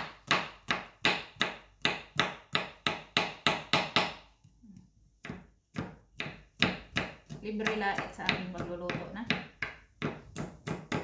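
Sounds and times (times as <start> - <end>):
knife chopping on wooden board: 0.0 - 4.5, 5.2 - 11.0.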